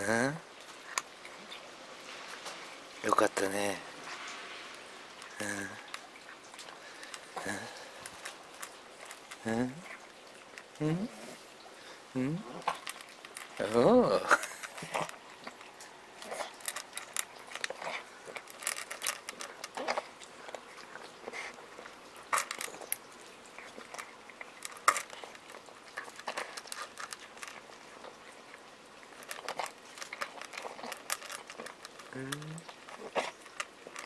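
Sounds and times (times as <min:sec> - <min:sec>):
cat chewing from metal bowl: 0:00.6 - 0:10.8, 0:11.8 - 0:34.0.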